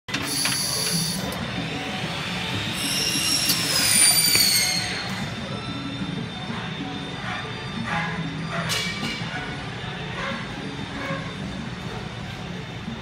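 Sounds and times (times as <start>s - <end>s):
machine high-pitched squealing whine: 0.1s - 13.0s.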